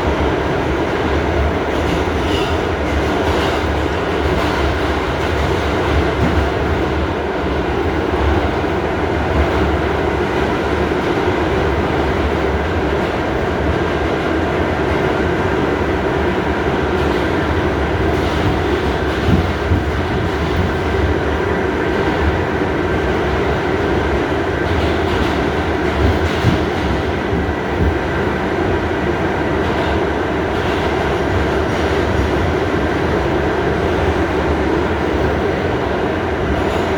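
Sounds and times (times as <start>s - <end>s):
subway train rumbling on rails: 0.0s - 36.9s.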